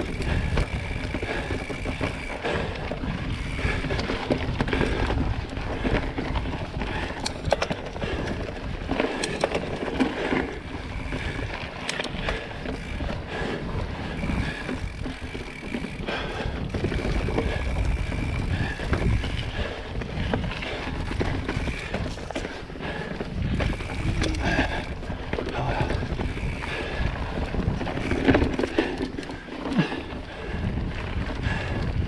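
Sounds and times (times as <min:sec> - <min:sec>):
bike clicks and knocks: 0:00.0 - 0:32.0
bike tyres crunching on gravel: 0:00.0 - 0:32.0
wind on microphone: 0:00.0 - 0:32.0.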